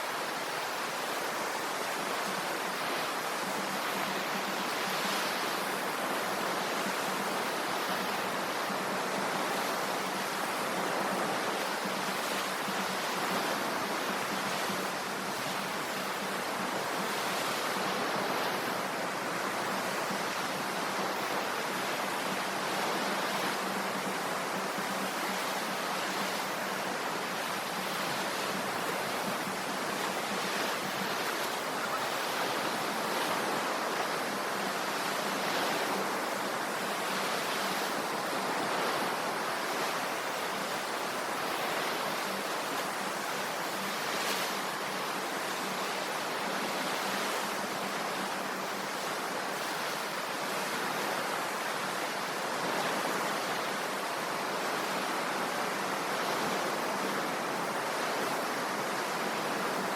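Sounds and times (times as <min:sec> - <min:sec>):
ocean waves washing on shore: 0:00.0 - 0:59.9.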